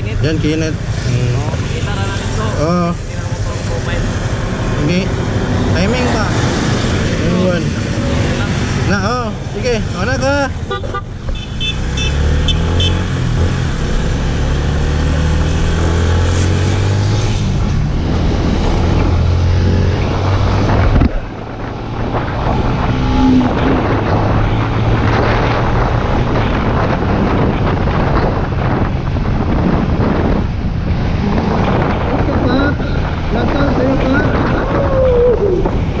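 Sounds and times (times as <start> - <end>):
road noise: 0.0 - 36.0
wind buffeting microphone: 0.0 - 36.0.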